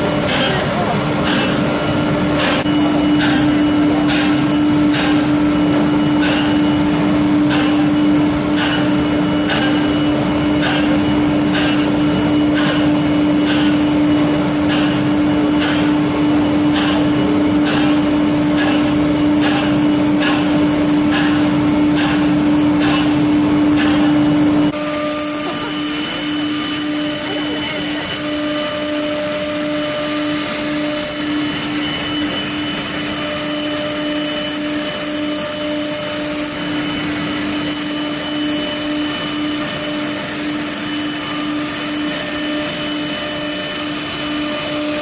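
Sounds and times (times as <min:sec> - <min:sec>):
router machine humming: 0:00.0 - 0:45.0.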